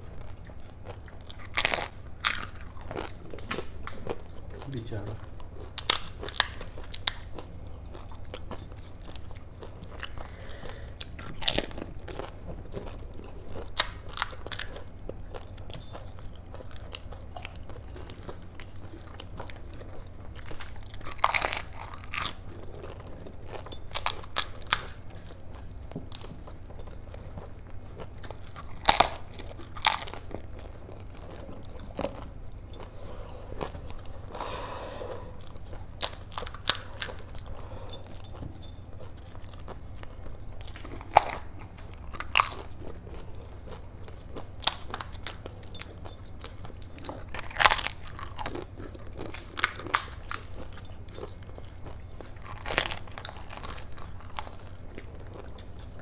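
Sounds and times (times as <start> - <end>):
chewing: 0.0 - 56.0
low steady hum: 0.0 - 56.0
crisp shells crunching: 0.3 - 56.0.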